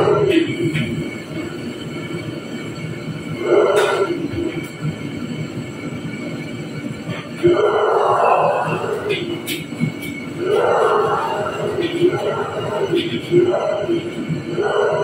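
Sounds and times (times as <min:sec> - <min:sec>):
gas burner and exhaust rushing: 0:00.0 - 0:15.0.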